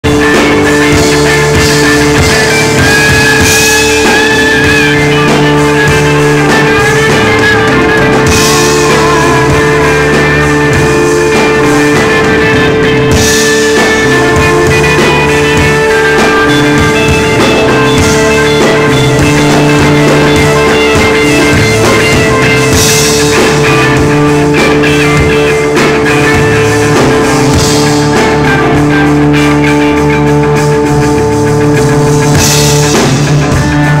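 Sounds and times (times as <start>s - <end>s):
bass line: 0.0s - 34.0s
guitar drone: 0.0s - 34.0s
live rock band playing: 0.0s - 34.0s.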